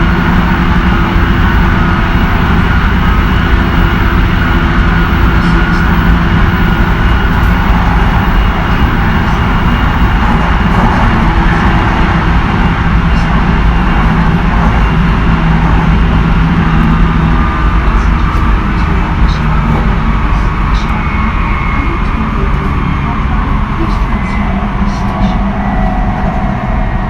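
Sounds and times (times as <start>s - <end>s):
train wheels rumbling on rail: 0.0s - 27.0s
whining train motor: 0.0s - 27.0s.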